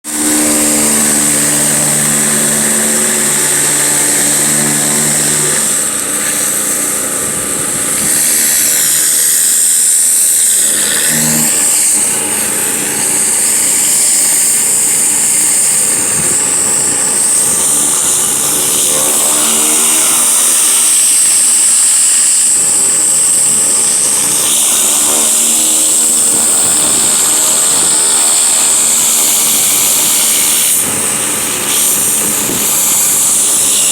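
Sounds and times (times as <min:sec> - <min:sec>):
pressure washer motor hum: 0:00.0 - 0:33.9
water jet hissing: 0:00.1 - 0:33.9.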